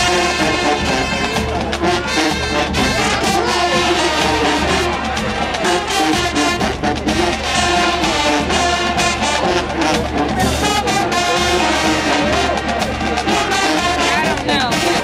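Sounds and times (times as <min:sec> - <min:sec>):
drumline drum strokes: 0:00.0 - 0:15.0
marching band playing: 0:00.0 - 0:15.0.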